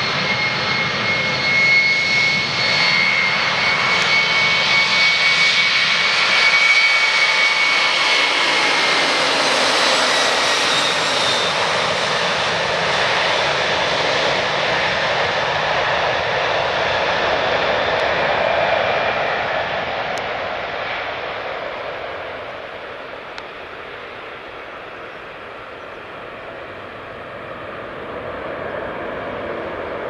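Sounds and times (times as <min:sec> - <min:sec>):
jet engine roar with whine: 0:00.0 - 0:30.0.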